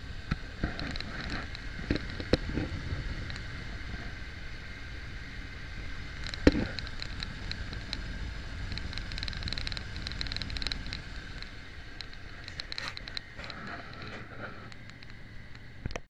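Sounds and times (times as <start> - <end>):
light high ticks: 0.0 - 16.0.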